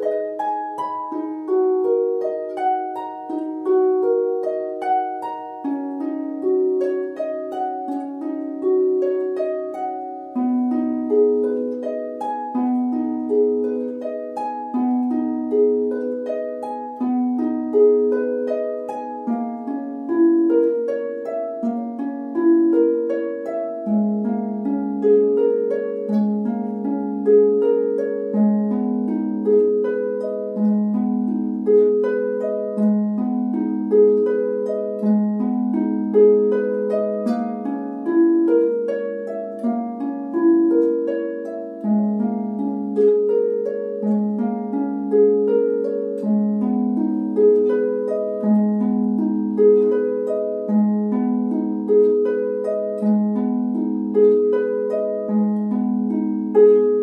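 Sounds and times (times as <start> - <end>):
solo harp playing: 0.0 - 57.0.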